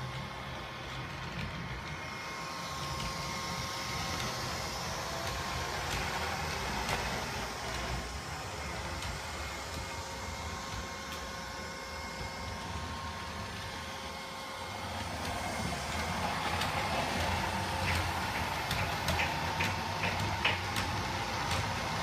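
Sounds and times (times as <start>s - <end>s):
robot vacuum motor whirring: 0.0s - 22.0s.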